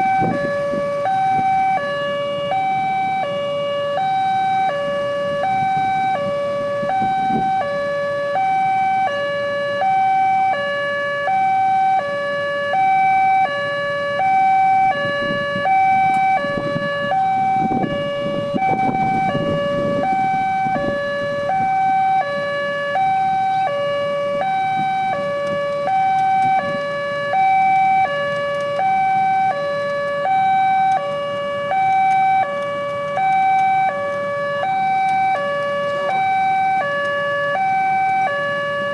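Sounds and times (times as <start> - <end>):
level crossing two-tone alarm: 0.0 - 38.9.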